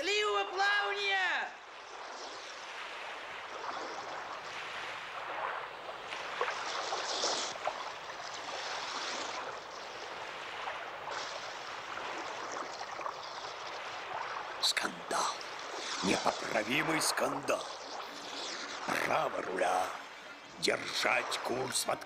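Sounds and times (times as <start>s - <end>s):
sea water splashing: 0.0s - 22.0s.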